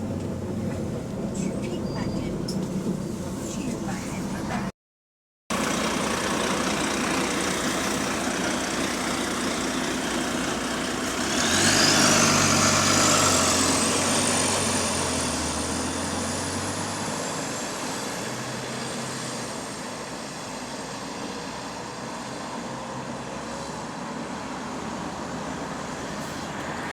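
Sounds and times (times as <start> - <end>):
bus engine pulling away: 0.0 - 4.7, 5.5 - 26.9.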